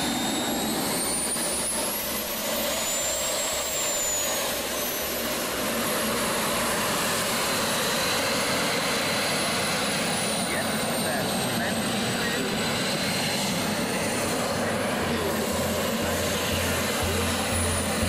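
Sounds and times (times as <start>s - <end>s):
high whistling turbine whine: 0.0s - 18.0s
jet turbine rush: 0.0s - 18.0s.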